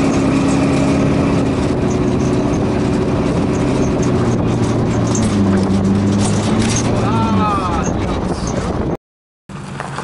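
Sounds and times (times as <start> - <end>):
car engine driving: 0.0 - 10.0
road noise: 0.0 - 10.0.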